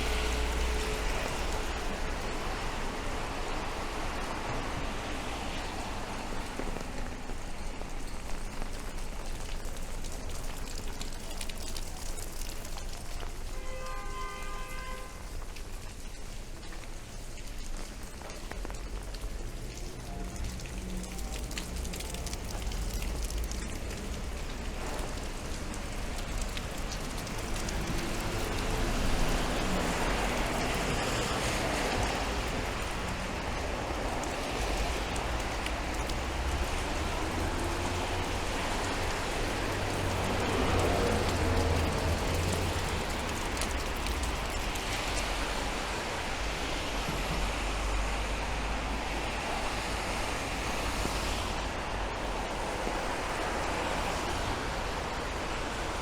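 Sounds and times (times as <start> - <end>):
rain falling on street: 0.0 - 56.0
traffic swishing on wet road: 0.0 - 56.0.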